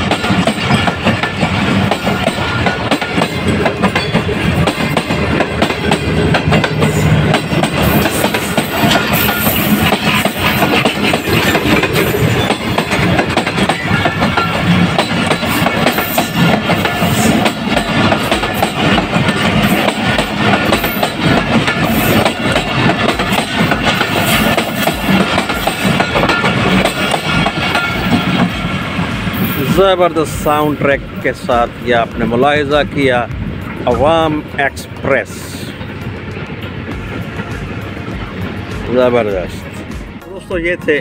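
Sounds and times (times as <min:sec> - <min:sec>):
train wheels clattering over rail joints: 0:00.0 - 0:40.2.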